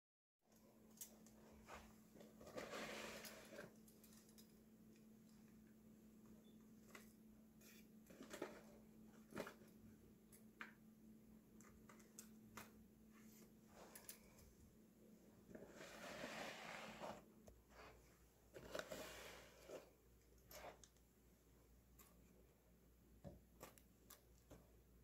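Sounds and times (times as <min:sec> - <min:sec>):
faint steady hum: 0:00.5 - 0:25.0.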